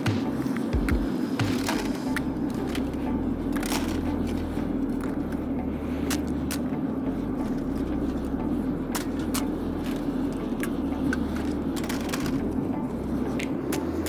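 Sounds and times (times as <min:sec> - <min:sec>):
furnace burner roaring: 0:00.0 - 0:14.0.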